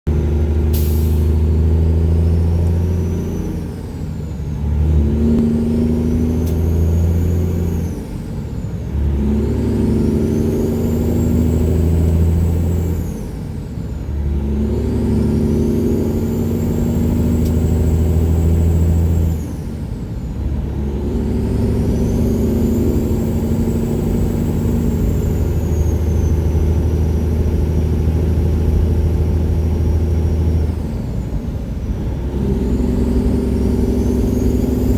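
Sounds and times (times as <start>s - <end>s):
truck engine running loud: 0.1s - 34.9s.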